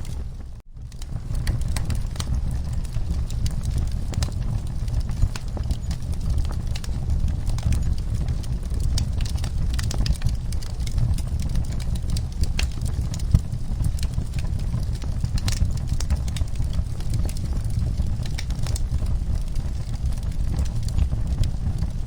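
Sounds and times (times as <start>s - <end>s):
low rumble of burning: 0.0s - 22.0s
wood fire crackling: 0.0s - 22.0s.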